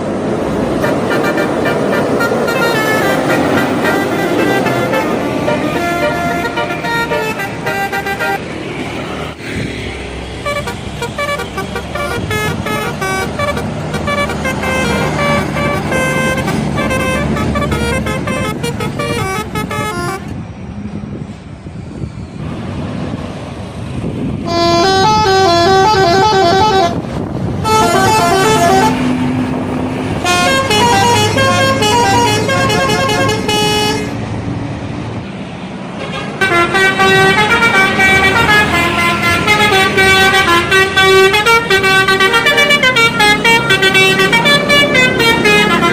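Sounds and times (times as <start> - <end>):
bus engine running: 0.0 - 45.9
multi-tone musical bus horns: 0.3 - 8.4, 10.3 - 20.4, 24.4 - 34.2, 35.9 - 45.9.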